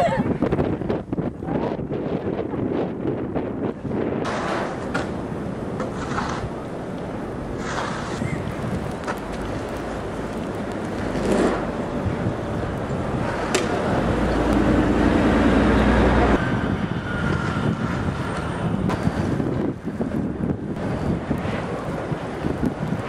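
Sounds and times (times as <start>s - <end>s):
wind buffeting the microphone: 0.0s - 23.0s
city street traffic: 3.6s - 23.0s.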